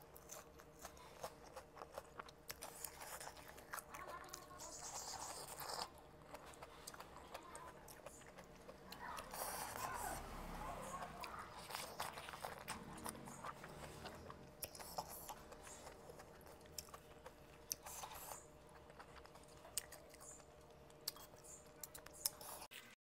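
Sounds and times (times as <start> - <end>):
close-up chewing: 0.0 - 23.0.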